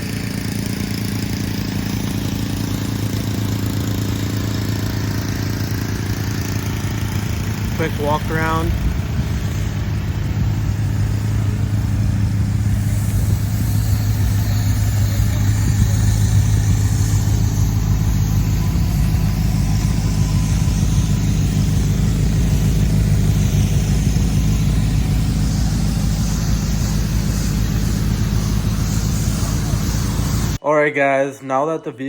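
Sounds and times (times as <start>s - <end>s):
car engine idling: 0.0s - 30.6s.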